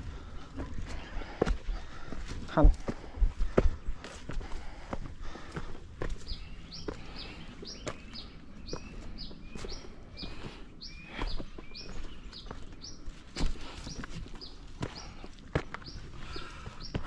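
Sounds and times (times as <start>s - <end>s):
footfalls on rocky trail: 0.0s - 17.0s.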